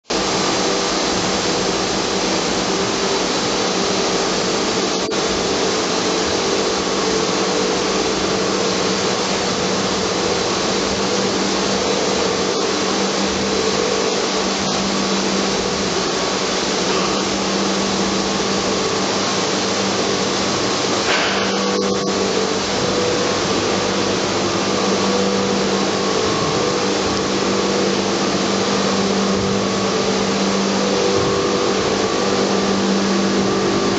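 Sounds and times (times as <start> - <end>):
water pumps droning: 0.0 - 33.9.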